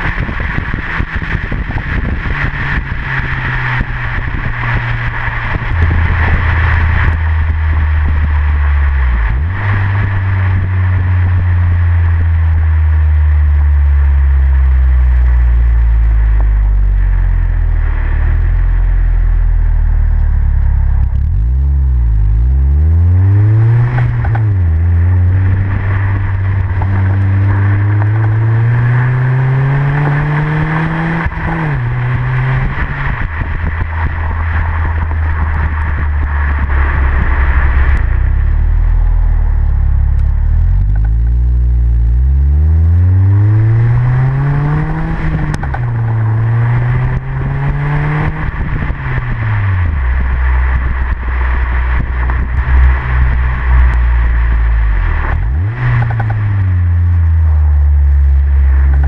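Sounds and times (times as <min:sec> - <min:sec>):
car exhaust accelerating: 0:00.0 - 0:59.0
wind and road noise: 0:00.0 - 0:59.0.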